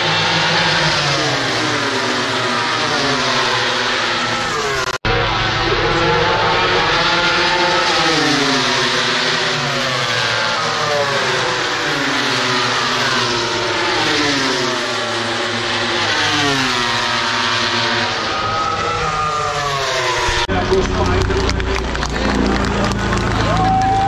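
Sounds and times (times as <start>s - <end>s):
racing motorcycles at high revs: 0.0s - 24.0s.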